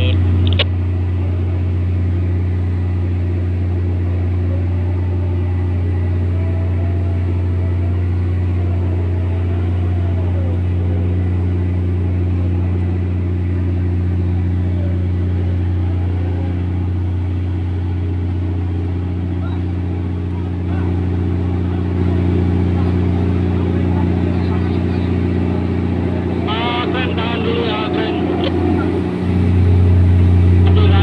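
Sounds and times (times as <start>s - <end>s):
ship diesel engine droning: 0.0s - 31.0s.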